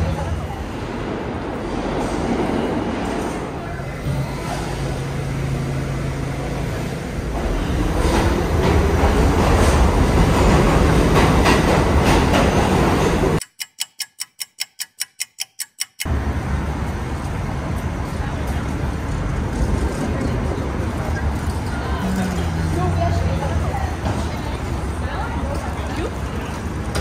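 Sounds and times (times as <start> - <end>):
subway train rumbling: 0.0 - 13.4, 16.1 - 27.0.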